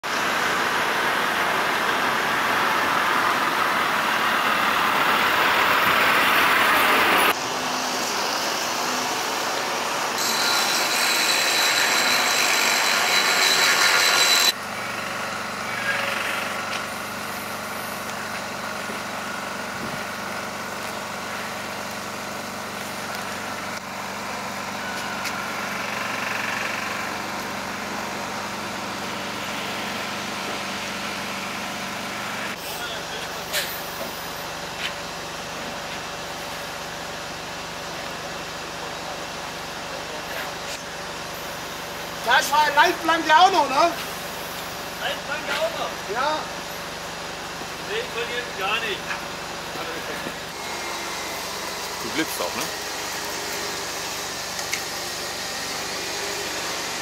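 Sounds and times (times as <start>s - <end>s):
diesel truck engine: 0.0s - 10.2s, 14.5s - 57.0s
road and traffic noise: 0.0s - 57.0s.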